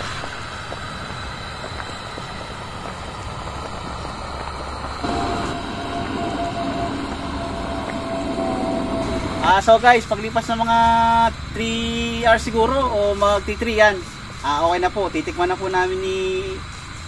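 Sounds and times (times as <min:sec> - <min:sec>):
gas burner noise: 0:00.0 - 0:17.0.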